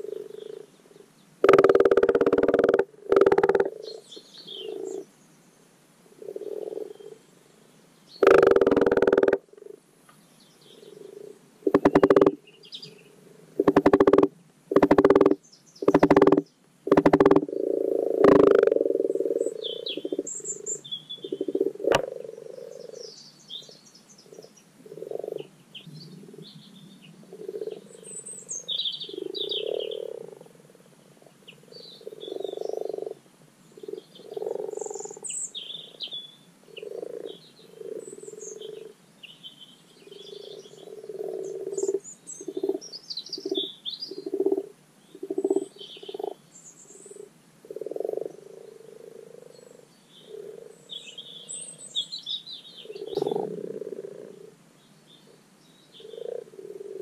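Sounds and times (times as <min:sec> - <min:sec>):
frogs croaking: 0:00.0 - 0:05.1, 0:06.1 - 0:07.3, 0:08.2 - 0:09.8, 0:10.7 - 0:36.1, 0:36.7 - 0:39.0, 0:40.0 - 0:52.0, 0:52.7 - 0:54.6, 0:55.2 - 0:57.0.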